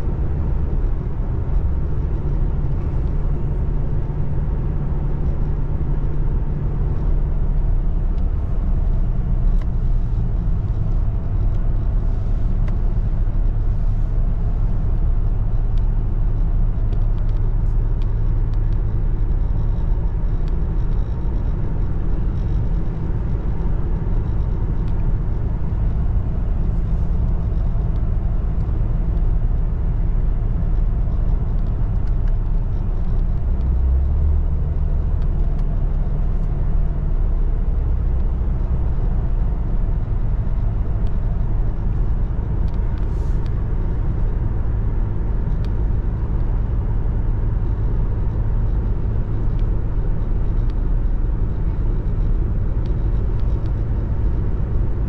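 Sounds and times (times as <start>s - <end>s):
engine hum: 0.0s - 55.0s
road noise: 0.0s - 55.0s.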